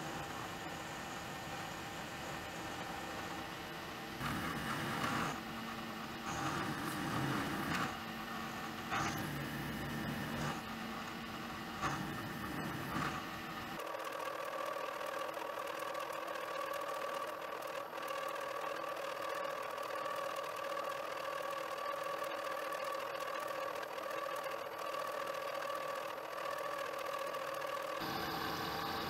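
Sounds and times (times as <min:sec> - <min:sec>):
milling machine whining: 0:00.0 - 0:29.0.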